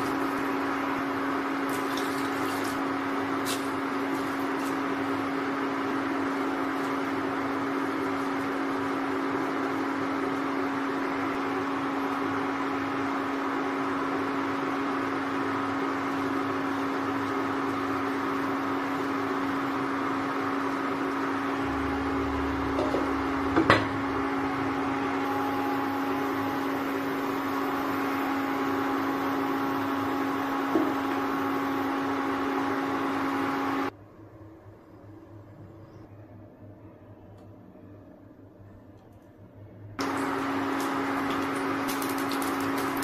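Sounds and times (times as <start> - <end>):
cooling fan whirring: 0.0 - 43.0
induction cooktop humming: 0.0 - 43.0.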